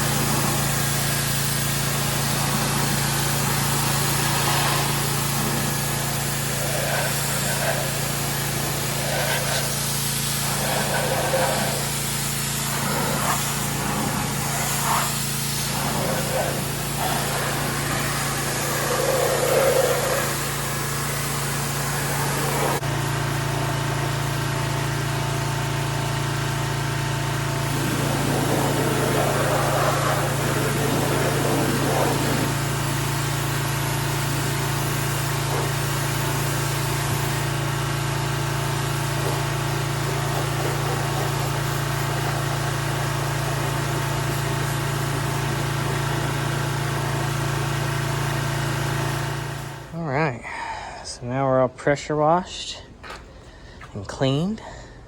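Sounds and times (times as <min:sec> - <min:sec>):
water jet hissing: 0:00.0 - 0:23.0, 0:25.9 - 0:49.9
pressure washer motor hum: 0:00.0 - 0:51.0.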